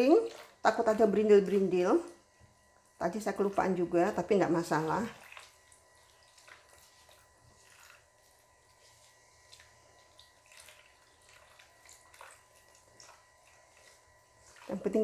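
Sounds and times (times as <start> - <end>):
batter stirred in a bowl: 0.0 - 15.0.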